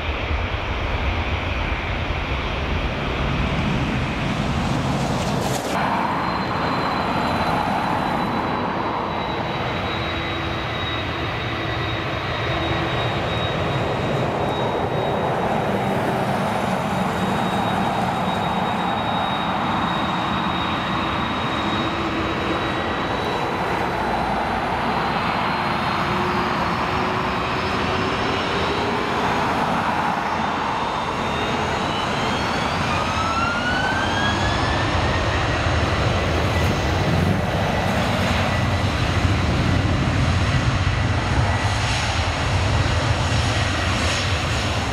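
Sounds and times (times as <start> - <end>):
jet engine high whine: 0.0 - 44.9
jet engines rushing: 0.0 - 44.9.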